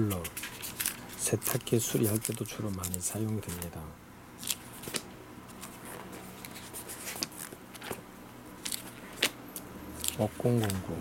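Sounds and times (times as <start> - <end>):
paper pages rustling: 0.0 - 3.7, 4.4 - 8.0, 8.6 - 9.4, 10.0 - 11.0.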